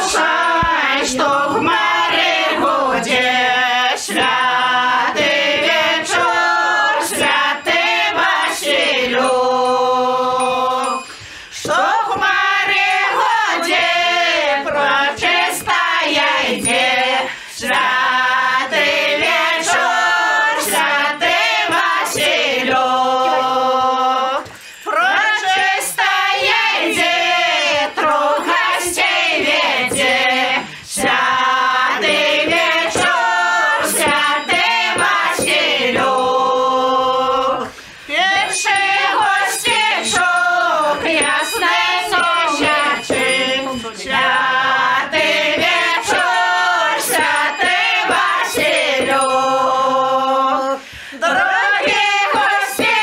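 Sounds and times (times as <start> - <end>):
women's group singing a carol: 0.0 - 53.0.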